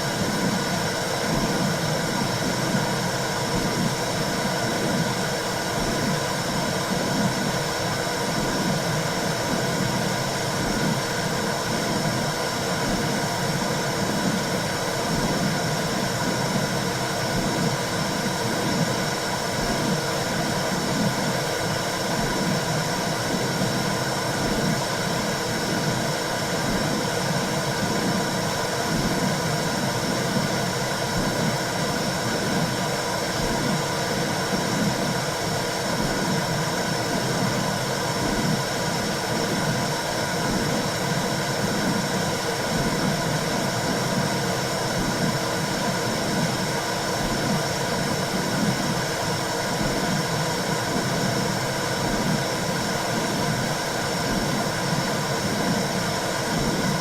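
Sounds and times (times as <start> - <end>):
low regular pulsing: 0.0 - 57.0.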